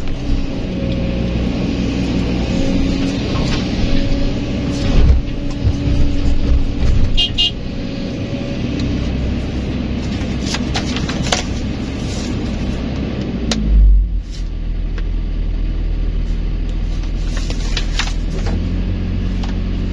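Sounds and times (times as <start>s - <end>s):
diesel engine running: 0.0s - 19.9s
loud deep rumble: 0.0s - 19.9s.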